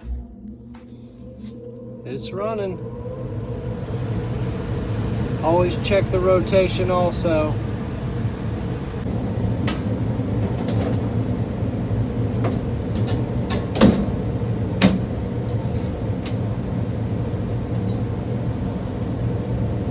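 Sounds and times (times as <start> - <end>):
blower motor humming: 0.0 - 19.9.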